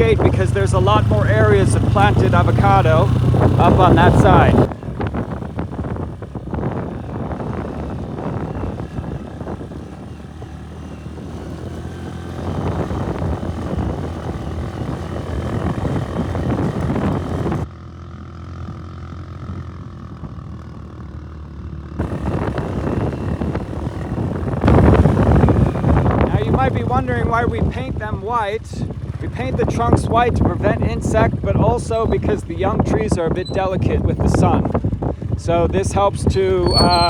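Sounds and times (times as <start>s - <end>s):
wind buffeting microphone: 0.0s - 17.7s, 22.0s - 37.0s
vehicle engine running: 0.0s - 37.0s.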